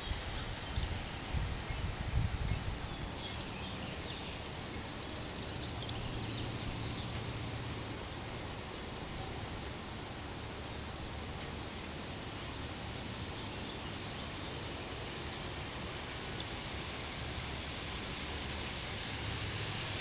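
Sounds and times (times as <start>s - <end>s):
birds chirping: 0.0s - 17.3s
outdoor background hiss: 0.0s - 20.0s.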